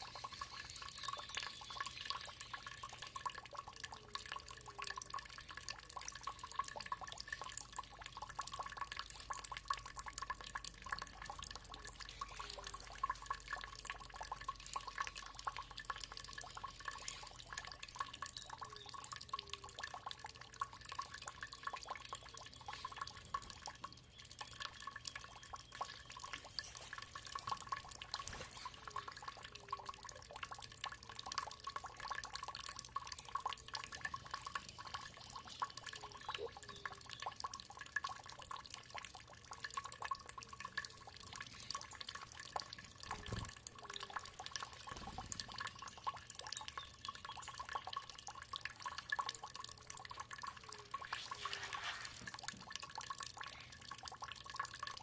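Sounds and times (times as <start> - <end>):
water dripping: 0.0 - 55.0
water trickling steadily: 0.0 - 55.0.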